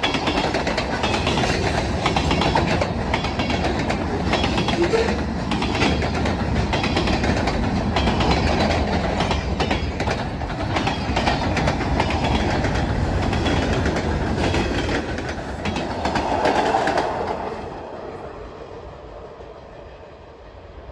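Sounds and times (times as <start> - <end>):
freight train wheels clicking: 0.0 - 18.0.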